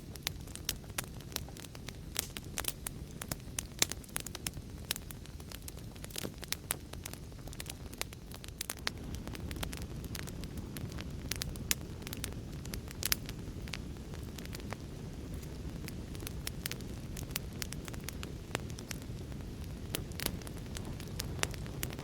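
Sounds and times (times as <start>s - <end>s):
fire pops and snaps: 0.0s - 22.0s
low rumble of flames: 0.0s - 22.0s
wood fire crackling: 0.0s - 22.0s.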